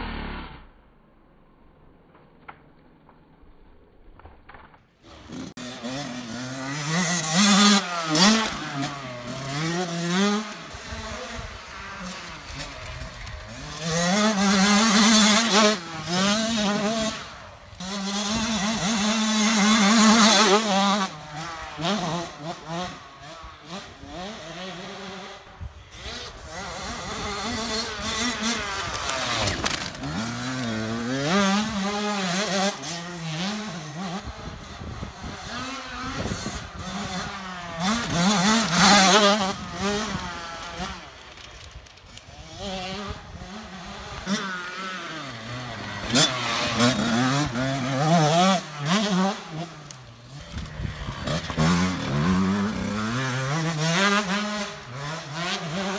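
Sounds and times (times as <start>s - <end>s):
dirt bike engine revving: 5.0s - 55.9s.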